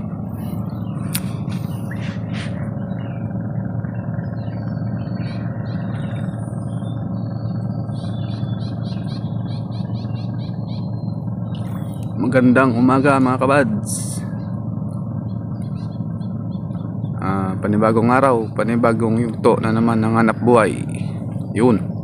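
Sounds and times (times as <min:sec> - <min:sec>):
birds chirping: 0:00.0 - 0:22.0
low background rumble: 0:00.0 - 0:22.0.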